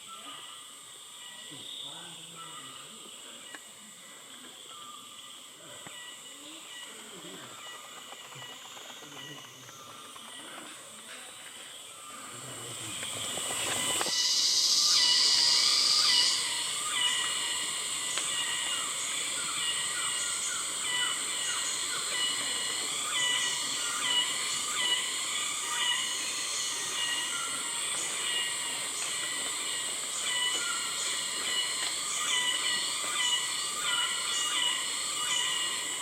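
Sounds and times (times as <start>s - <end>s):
cicada buzz: 0.0s - 36.0s
insects chirping: 0.0s - 36.0s
loud hissing cicada call: 0.0s - 36.0s.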